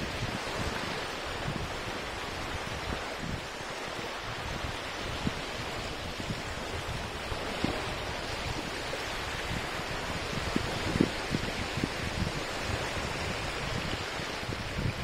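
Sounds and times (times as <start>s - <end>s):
lake waves washing onto shore: 0.0s - 15.0s.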